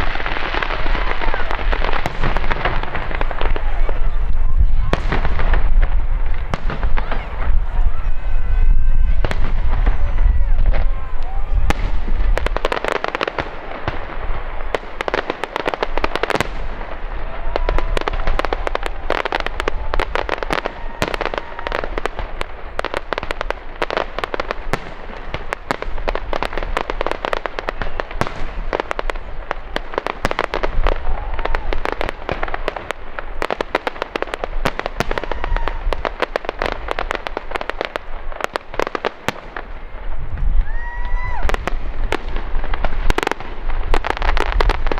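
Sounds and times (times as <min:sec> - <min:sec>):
deep fireworks booms: 0:00.0 - 0:44.9
fireworks crackling: 0:00.0 - 0:44.9.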